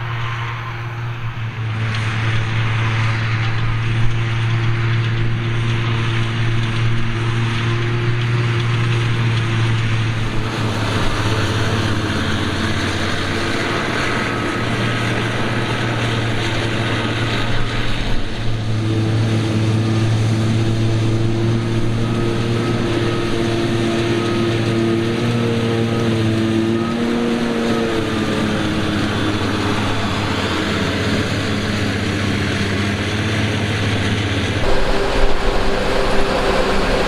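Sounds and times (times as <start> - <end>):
forage harvester engine drone: 0.0 - 37.0.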